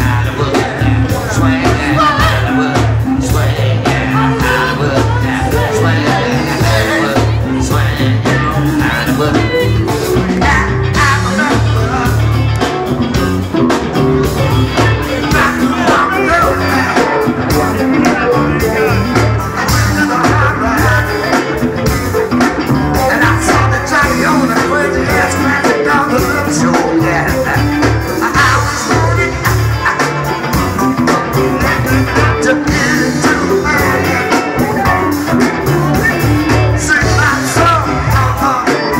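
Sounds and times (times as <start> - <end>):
funk band playing: 0.0 - 38.9
person singing: 0.0 - 38.9.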